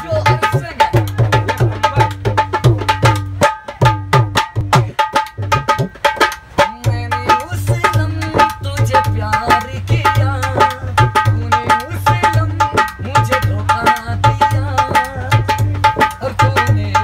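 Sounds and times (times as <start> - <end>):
hand drum played in rhythm: 0.0 - 17.0.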